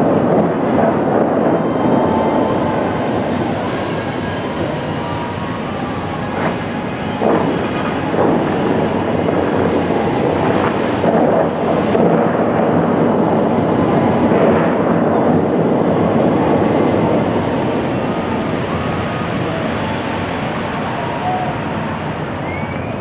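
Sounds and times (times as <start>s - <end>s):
city traffic: 0.0s - 23.0s
fountain water jets and spray: 0.0s - 23.0s.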